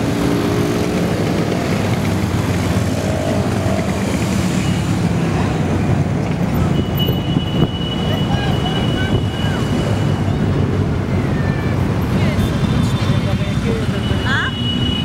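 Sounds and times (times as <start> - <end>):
motorcycles riding past: 0.0 - 15.0.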